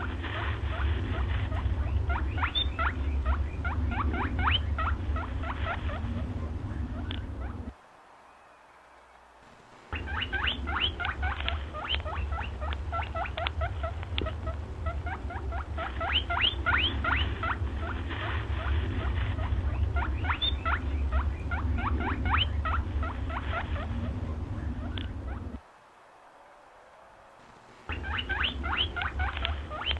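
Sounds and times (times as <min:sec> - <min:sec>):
animal squeaking: 0:00.0 - 0:07.7, 0:09.9 - 0:25.6, 0:27.4 - 0:29.9
steady low hum: 0:00.0 - 0:08.2, 0:09.2 - 0:26.0, 0:26.6 - 0:29.9.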